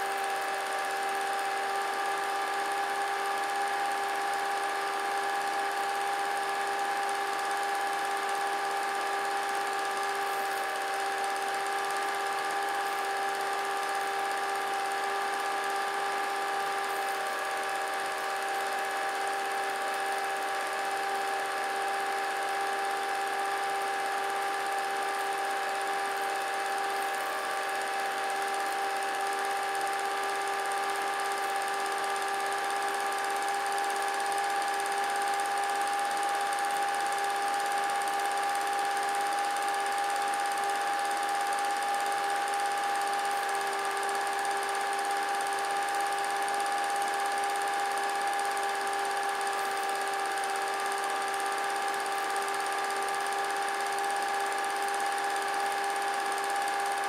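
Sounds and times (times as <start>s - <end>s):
film projector motor whirring: 0.0s - 57.0s.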